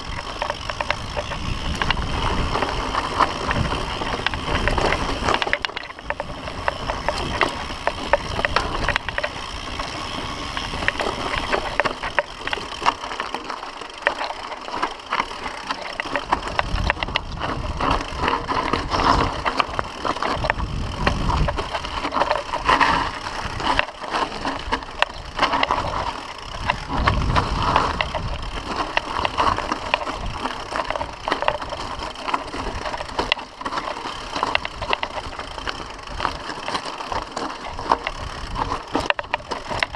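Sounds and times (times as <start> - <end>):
bike frame rattling: 0.0 - 39.9
tyres crunching over stones: 0.0 - 39.9.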